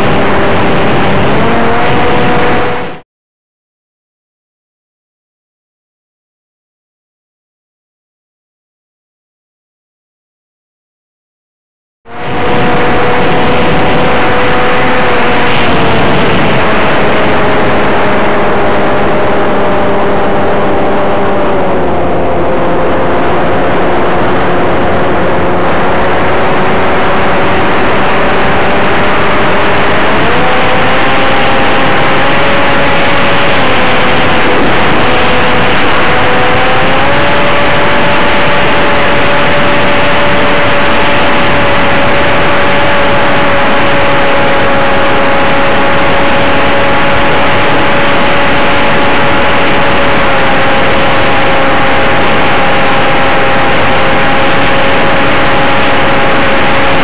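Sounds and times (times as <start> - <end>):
electric motor and propeller whine: 0.0 - 3.0, 12.1 - 57.0
wind noise and static: 0.0 - 3.0, 12.1 - 57.0.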